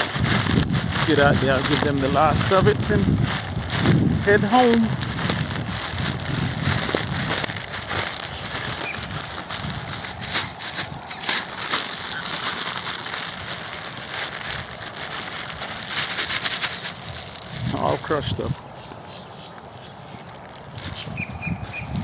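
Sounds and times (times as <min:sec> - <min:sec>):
food crushed by hand crinkling: 0:00.0 - 0:18.6, 0:19.6 - 0:21.2.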